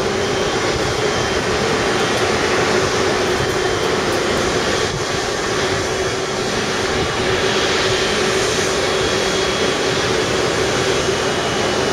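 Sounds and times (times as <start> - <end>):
jet engine noise: 0.0 - 11.9.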